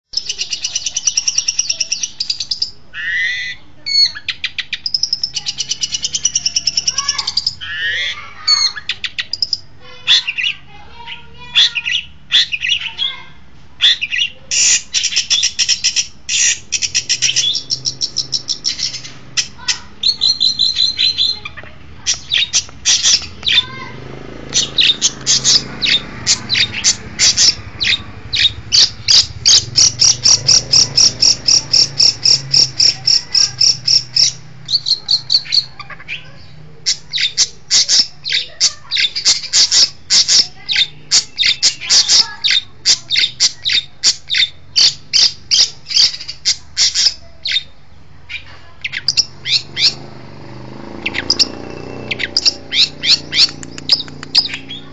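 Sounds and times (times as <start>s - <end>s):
bird singing chirps and trills: 0.0s - 54.9s.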